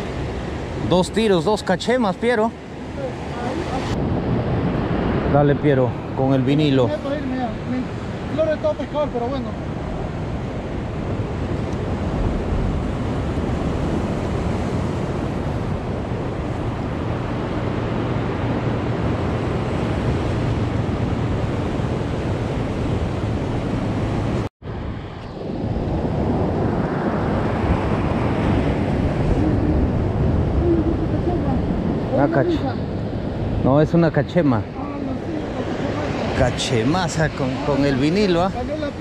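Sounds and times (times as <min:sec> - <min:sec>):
ocean surf against rocks: 0:00.0 - 0:39.0
wind buffeting microphone: 0:00.0 - 0:39.0.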